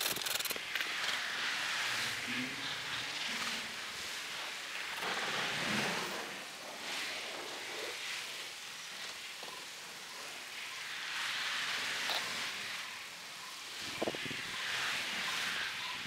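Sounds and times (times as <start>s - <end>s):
wind gusting through trees: 0.0s - 16.0s.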